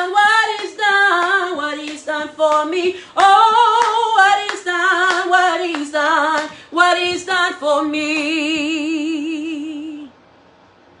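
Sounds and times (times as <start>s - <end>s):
person singing unaccompanied: 0.0s - 10.1s.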